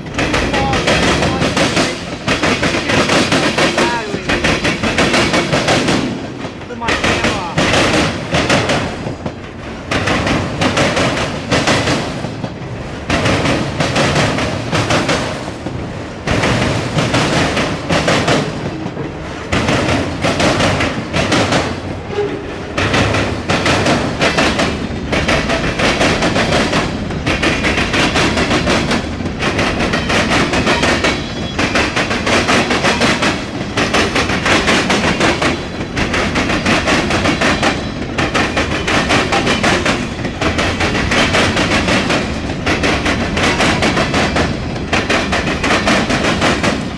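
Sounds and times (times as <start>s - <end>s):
train wheels clattering over joints: 0.0s - 46.9s.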